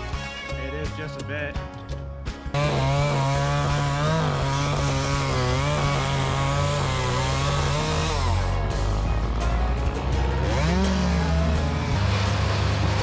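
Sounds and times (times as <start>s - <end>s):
background music: 0.0s - 13.0s
chainsaw running: 2.5s - 13.0s.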